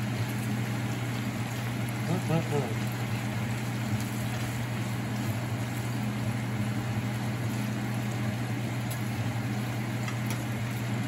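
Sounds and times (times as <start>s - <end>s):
bacon sizzling and crackling: 0.0s - 11.0s
kitchen fan humming: 0.0s - 11.0s.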